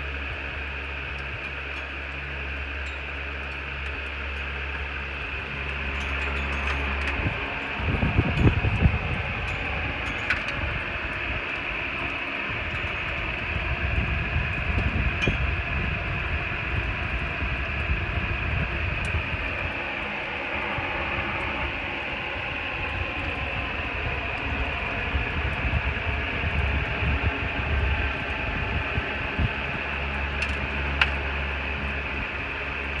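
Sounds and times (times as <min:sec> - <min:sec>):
gusts buffeting microphone: 0:04.9 - 0:33.0.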